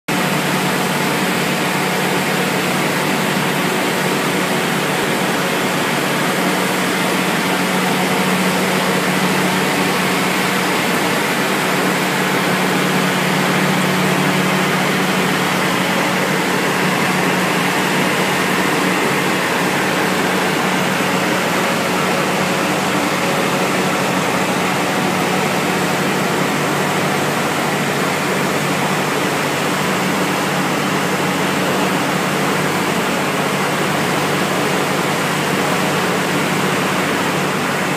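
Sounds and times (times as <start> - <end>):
pellet mill machinery noise: 0.1 - 37.9.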